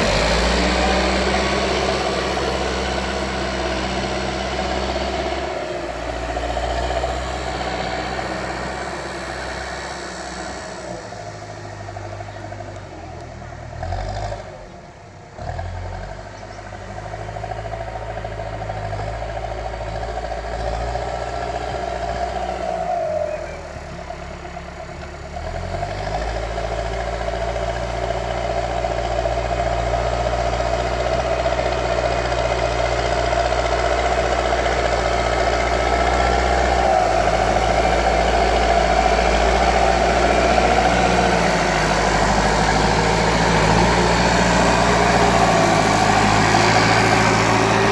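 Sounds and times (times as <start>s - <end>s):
backhoe diesel engine running: 0.0s - 47.9s.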